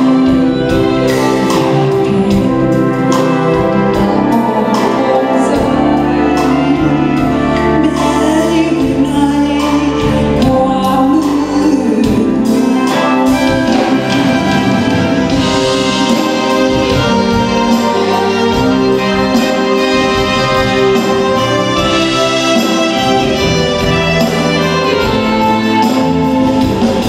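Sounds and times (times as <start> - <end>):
woman singing: 0.0 - 22.2
band playing over steady beat: 0.0 - 27.0.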